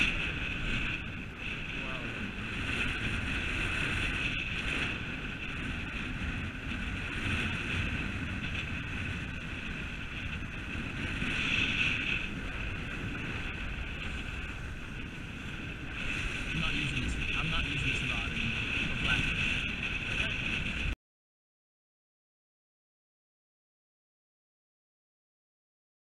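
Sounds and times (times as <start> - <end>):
waves breaking against rocks: 0.0 - 21.0
wind buffeting microphone: 0.0 - 21.0.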